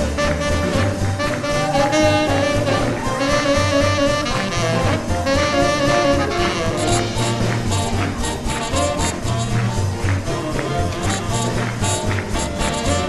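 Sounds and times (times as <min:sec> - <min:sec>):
bass and drums beat: 0:00.0 - 0:13.0
horns playing melody: 0:00.0 - 0:13.0.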